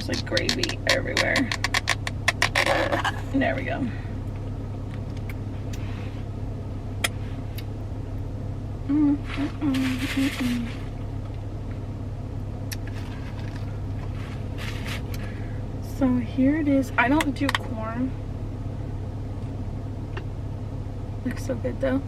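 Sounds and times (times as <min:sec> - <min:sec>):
car idling hum: 0:00.0 - 0:22.0.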